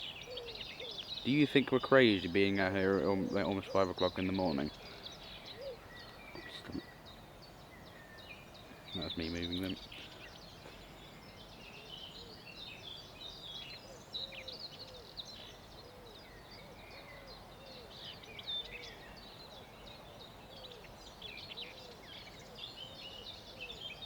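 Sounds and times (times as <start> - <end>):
small birds chirping and trilling: 0.0 - 24.0.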